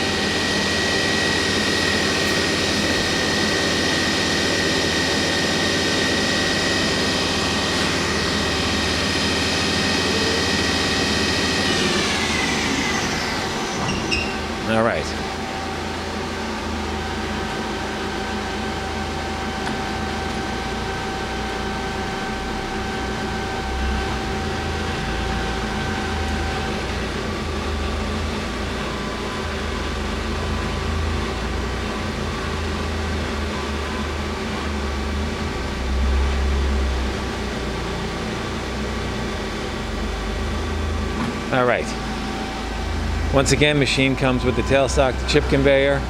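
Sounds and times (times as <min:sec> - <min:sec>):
lathe machine humming with whine: 0:00.0 - 0:46.0.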